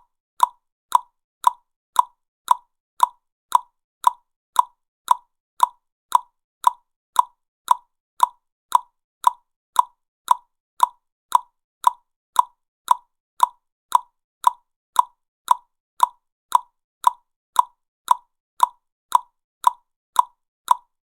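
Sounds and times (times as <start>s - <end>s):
tongue clicks: 0.4s - 20.9s.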